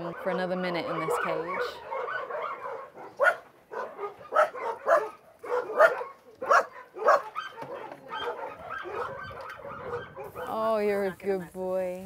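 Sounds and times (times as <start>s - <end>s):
dogs barking: 0.0s - 10.6s.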